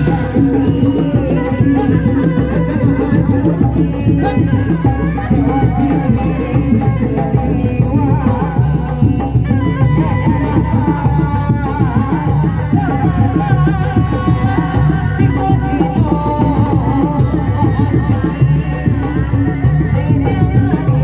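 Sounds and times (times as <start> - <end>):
dense folk drumming: 0.0 - 21.0.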